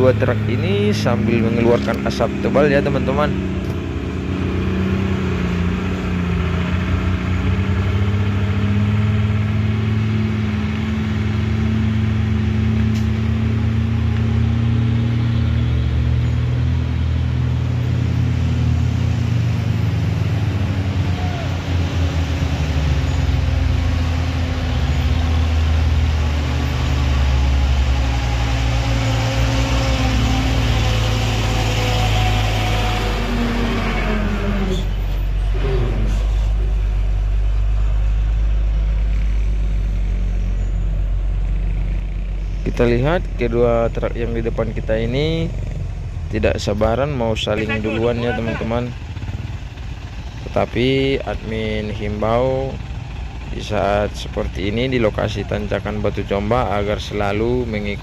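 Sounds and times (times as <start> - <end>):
diesel truck engines labouring: 0.0 - 58.0.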